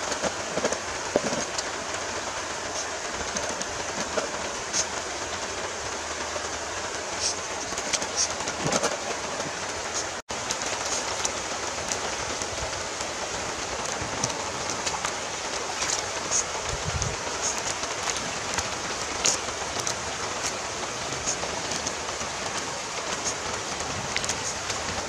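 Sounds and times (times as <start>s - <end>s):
knocks and splashes: 0.0s - 5.5s, 7.2s - 25.0s
stream water rushing over rocks: 0.0s - 25.0s.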